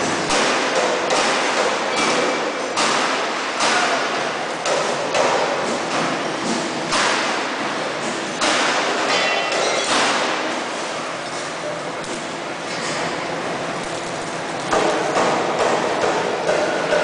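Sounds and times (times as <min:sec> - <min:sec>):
workshop hall din: 0:00.0 - 0:17.0.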